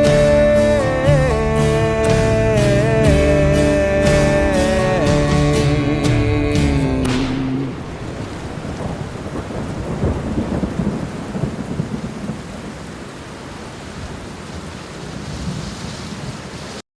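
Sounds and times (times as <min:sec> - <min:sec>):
rain falling: 0:00.0 - 0:16.8
thunder rumbling: 0:00.0 - 0:16.8.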